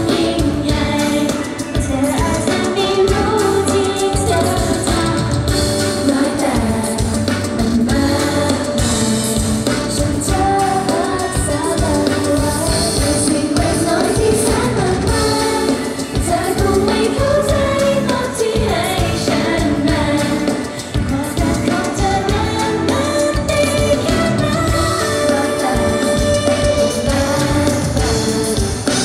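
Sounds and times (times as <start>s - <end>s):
girl group singing: 0.0s - 29.0s
live band playing pop: 0.0s - 29.0s.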